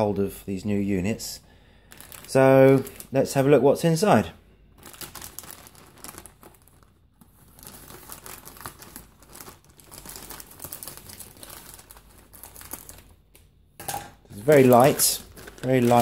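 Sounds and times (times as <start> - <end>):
plastic bag crinkling: 1.8 - 3.5, 4.7 - 16.0.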